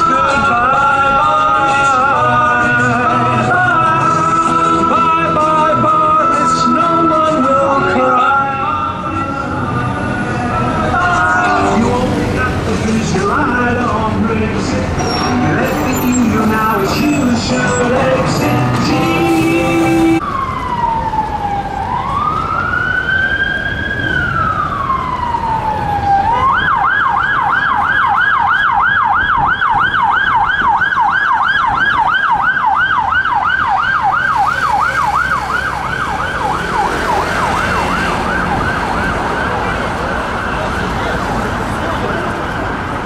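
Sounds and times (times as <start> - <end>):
police siren wailing and yelping: 0.0 - 2.2, 3.4 - 12.6, 15.6 - 43.0
city traffic: 0.0 - 43.0.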